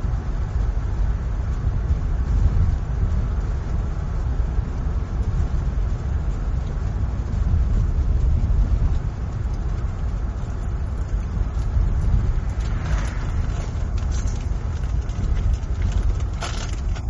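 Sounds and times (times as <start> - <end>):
car engine and tyres rumbling: 0.0 - 17.0
light ticks: 0.0 - 17.0.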